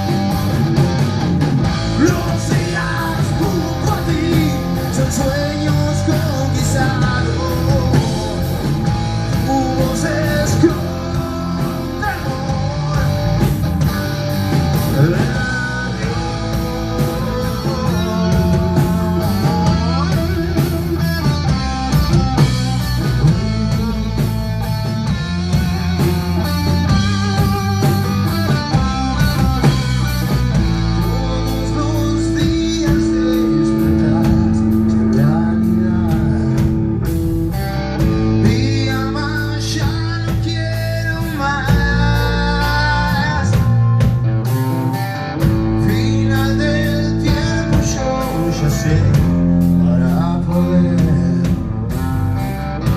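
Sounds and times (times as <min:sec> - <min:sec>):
bass and drums: 0:00.0 - 0:52.9
electric guitar: 0:00.0 - 0:52.9
person singing: 0:01.8 - 0:24.3, 0:26.0 - 0:52.0.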